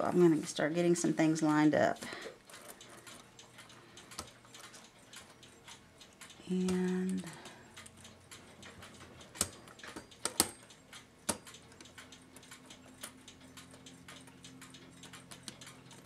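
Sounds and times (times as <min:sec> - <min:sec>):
clock parts clicking and tapping: 0:00.0 - 0:16.0.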